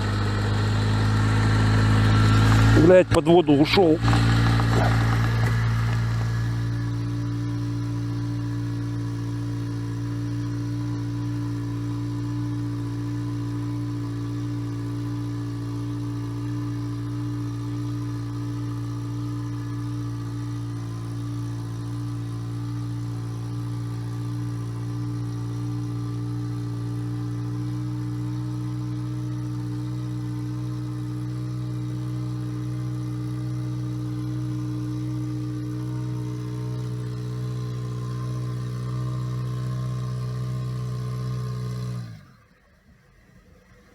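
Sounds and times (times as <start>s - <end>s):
vehicle engine idling: 0.0s - 43.9s.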